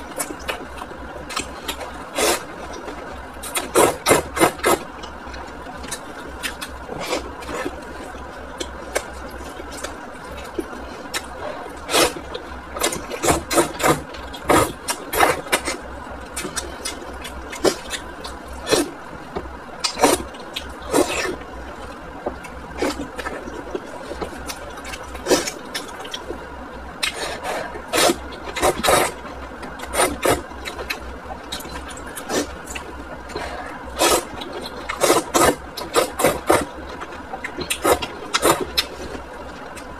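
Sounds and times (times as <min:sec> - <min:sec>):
slurping and chewing noodles: 0:00.0 - 0:26.4, 0:27.0 - 0:39.9
steady low hum: 0:00.0 - 0:39.9.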